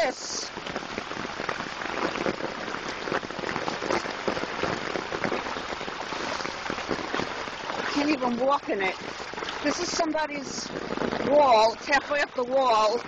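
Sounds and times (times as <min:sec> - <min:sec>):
rain pattering on water: 0:00.0 - 0:13.0.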